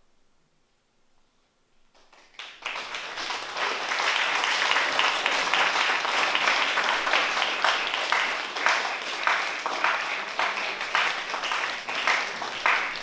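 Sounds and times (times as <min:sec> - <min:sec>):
audience applauding: 0:01.9 - 0:13.0.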